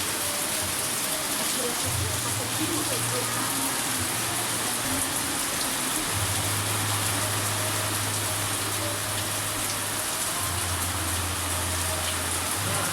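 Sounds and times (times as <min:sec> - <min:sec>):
steady rain falling: 0:00.0 - 0:12.9.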